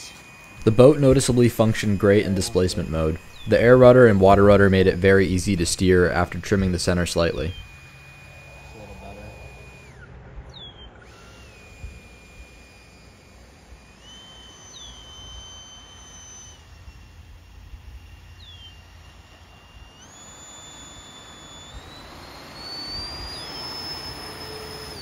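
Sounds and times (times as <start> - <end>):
electric ducted fan whining: 0.0 - 25.0.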